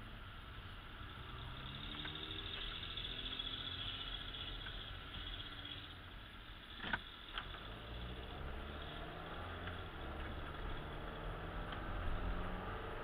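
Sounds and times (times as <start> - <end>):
car interior road noise: 0.0 - 13.0.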